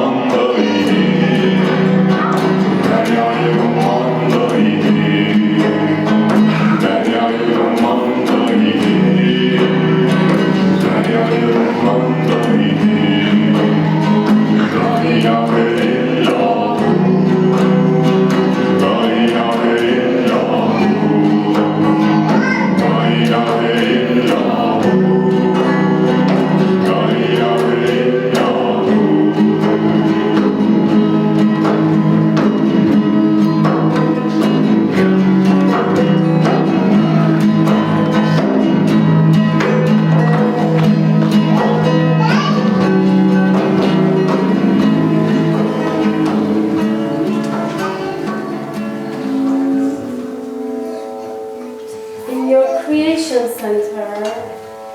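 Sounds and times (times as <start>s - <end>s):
person singing: 0.0s - 54.7s
plucked string instrument: 0.0s - 54.9s.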